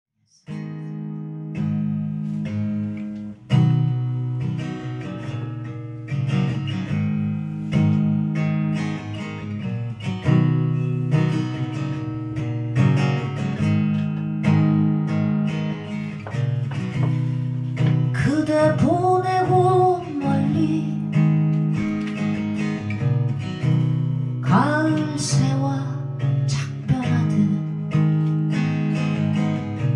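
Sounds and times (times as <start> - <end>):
acoustic guitar chords: 0.3 - 29.9.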